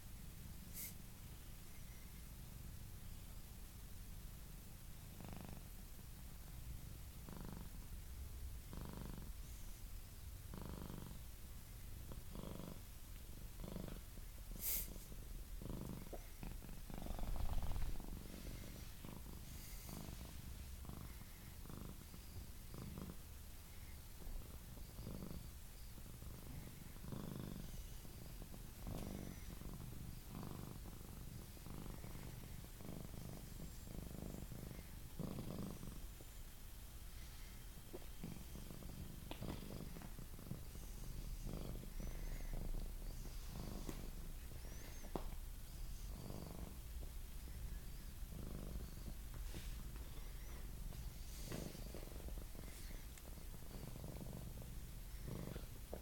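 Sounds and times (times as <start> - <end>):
cat purring: 0.0 - 56.0.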